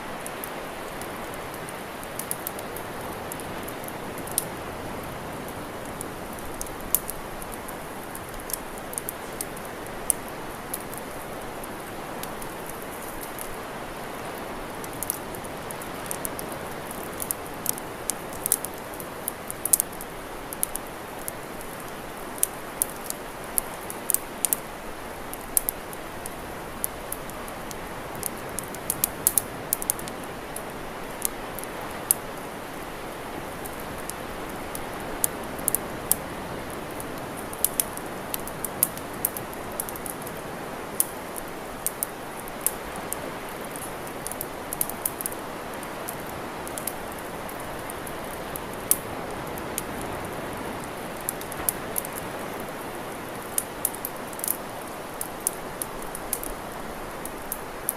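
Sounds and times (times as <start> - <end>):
campfire crackling: 0.0 - 57.9
steady rushing hiss: 0.0 - 57.9.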